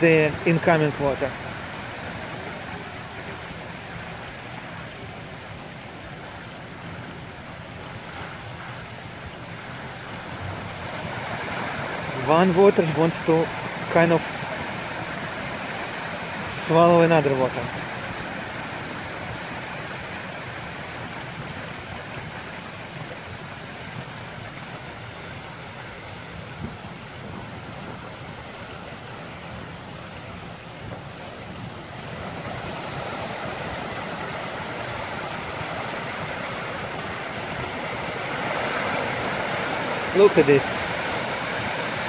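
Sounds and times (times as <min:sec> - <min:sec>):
ocean waves surging: 0:00.0 - 0:42.0.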